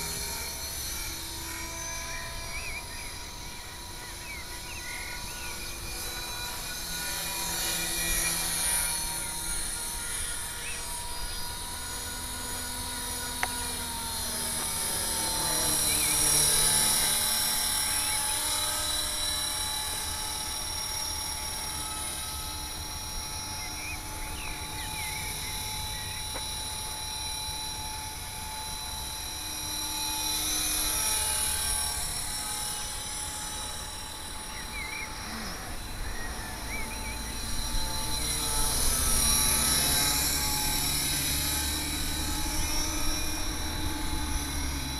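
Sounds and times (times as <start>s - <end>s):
rc helicopter rotor whine: 0.0s - 44.9s.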